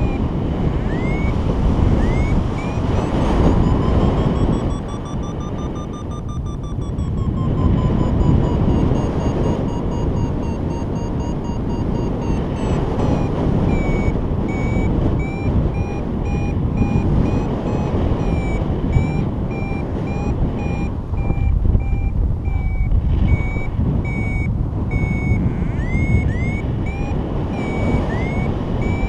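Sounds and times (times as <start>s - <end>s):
variometer beeping: 0.0s - 29.0s
wind rush on microphone: 0.0s - 29.0s
quick rising chirps: 0.8s - 1.3s, 2.0s - 20.8s, 24.1s - 29.0s.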